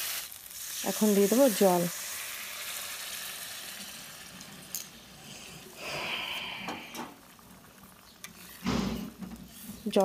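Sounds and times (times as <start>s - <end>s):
water poured into hot pan sizzling: 0.0s - 10.0s.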